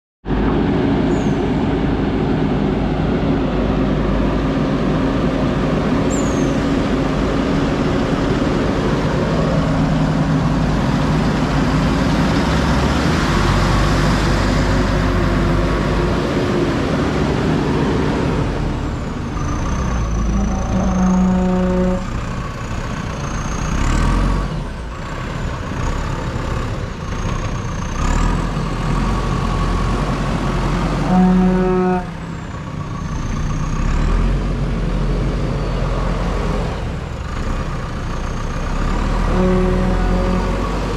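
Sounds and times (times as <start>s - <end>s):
diesel engine working: 0.2s - 40.9s.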